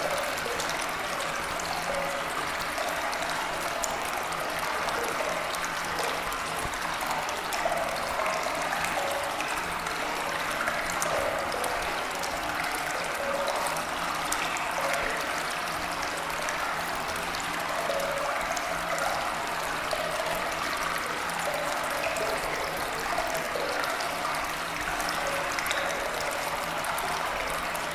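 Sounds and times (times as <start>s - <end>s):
running water: 0.0s - 27.9s.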